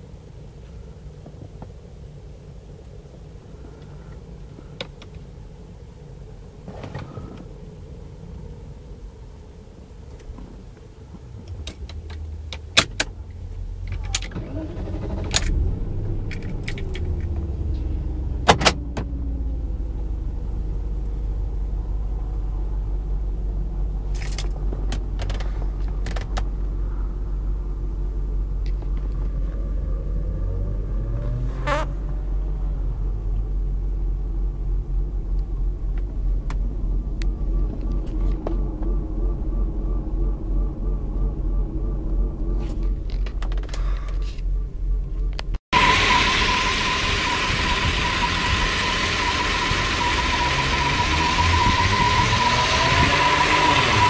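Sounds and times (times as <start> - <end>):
car engine drone: 1.9 - 54.0.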